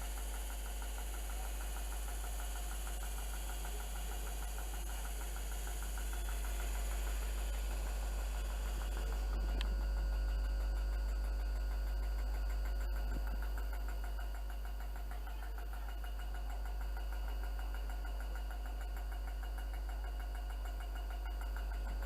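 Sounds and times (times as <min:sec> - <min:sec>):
train engine idling: 0:00.0 - 0:22.0.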